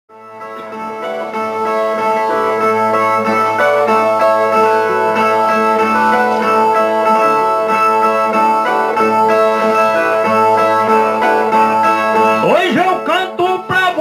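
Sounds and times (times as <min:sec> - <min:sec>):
plucked folk guitar: 0:00.1 - 0:14.0.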